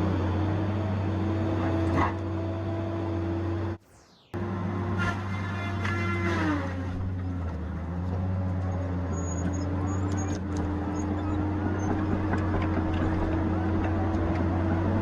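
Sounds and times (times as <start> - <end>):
heavy machine engine drone: 0.0 - 15.0.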